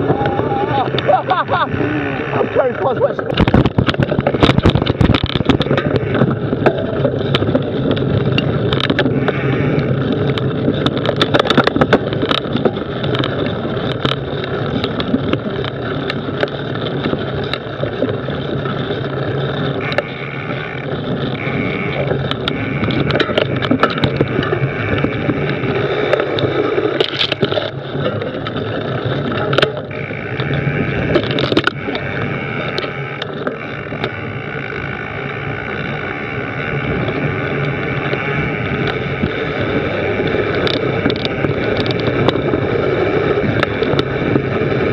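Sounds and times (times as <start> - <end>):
bike knocks and rattles: 0.0 - 44.9
tyres rumbling on dirt trail: 0.0 - 44.9.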